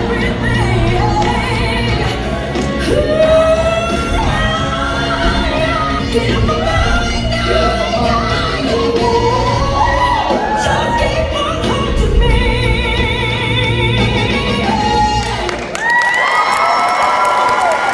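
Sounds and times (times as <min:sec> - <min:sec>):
steady bass: 0:00.0 - 0:15.4
person singing: 0:00.0 - 0:15.7.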